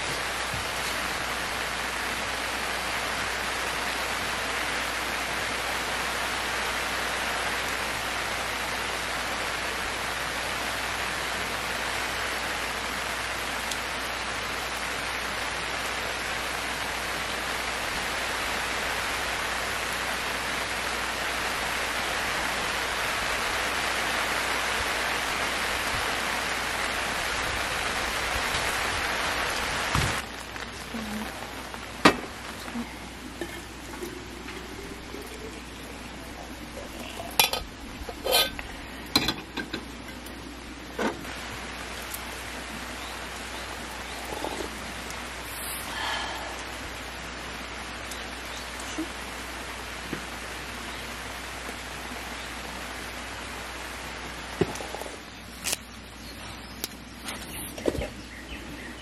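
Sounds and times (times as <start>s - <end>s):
rain pattering on a tarp: 0.0s - 59.0s.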